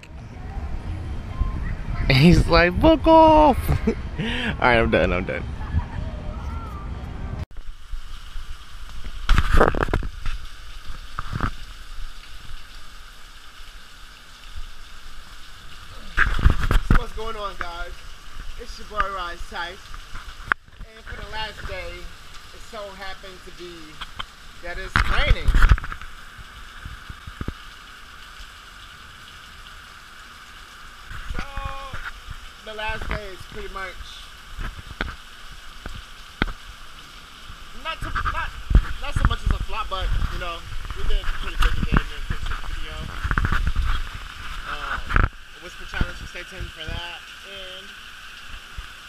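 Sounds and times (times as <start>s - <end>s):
heavy rain falling: 0.0s - 6.4s, 7.5s - 49.0s
steady hiss: 7.5s - 49.0s.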